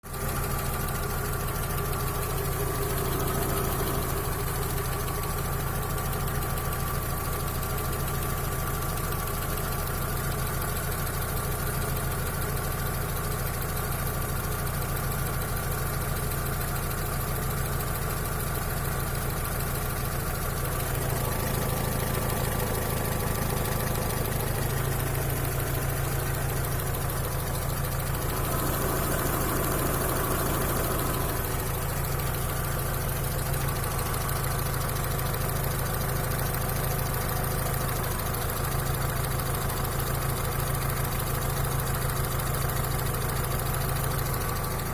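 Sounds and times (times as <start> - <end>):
car engine idling: 0.0 - 44.9
engine knocking: 0.0 - 44.9.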